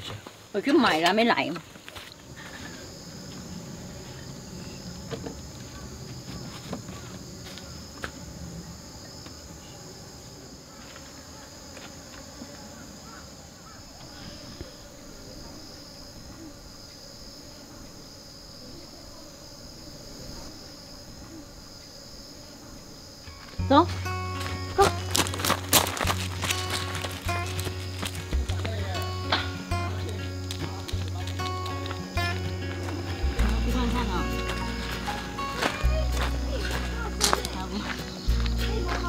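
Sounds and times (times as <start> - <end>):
insects chirring: 0.0 - 39.0.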